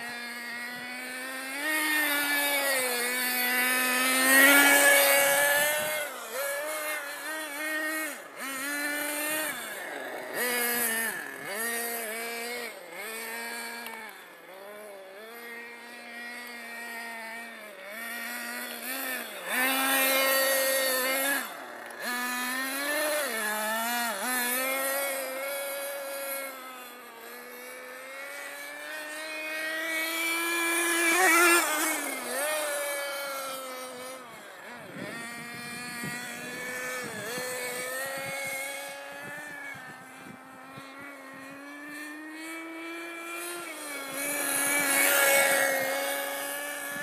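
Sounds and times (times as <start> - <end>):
model car engine revving: 0.0 - 47.0.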